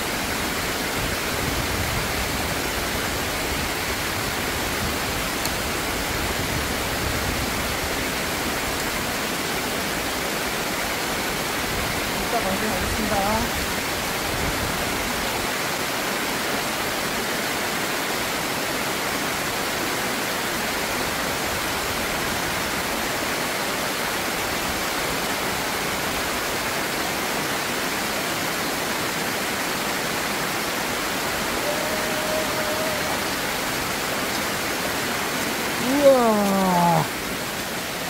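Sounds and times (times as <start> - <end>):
water rushing over a weir: 0.0 - 38.0.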